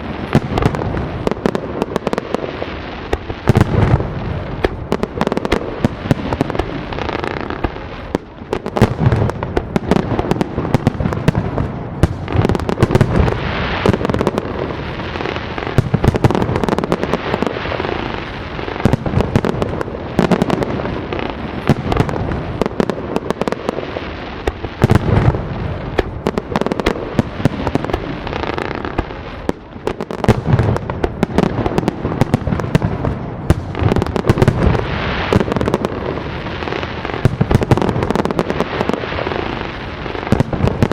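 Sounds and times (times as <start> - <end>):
firework bangs and crackles: 0.0 - 40.9.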